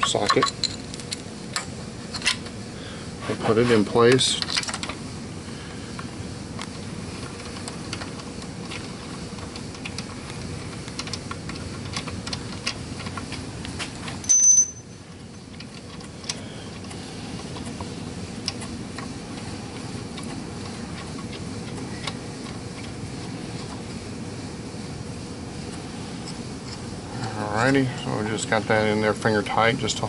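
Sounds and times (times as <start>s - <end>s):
shop hum: 0.0s - 30.0s.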